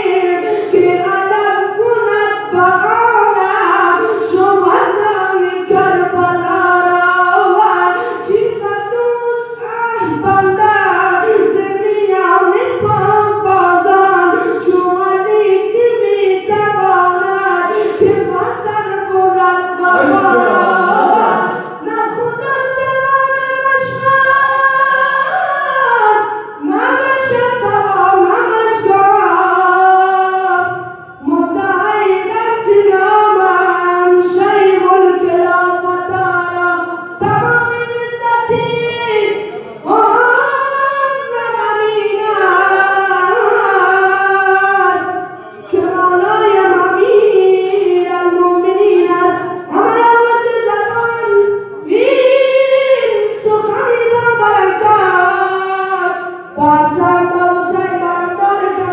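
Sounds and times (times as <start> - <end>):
young man singing through loudspeaker: 0.0 - 58.9.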